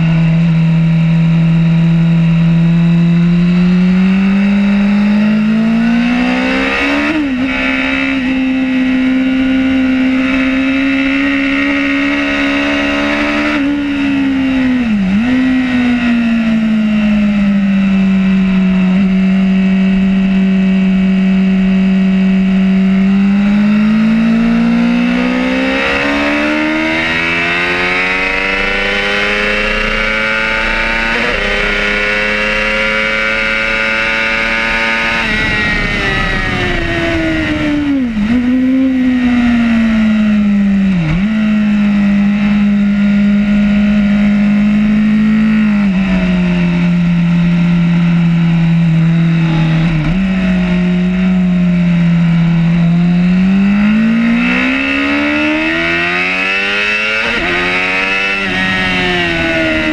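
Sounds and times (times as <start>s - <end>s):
superbike engine revving: 0.0s - 59.9s.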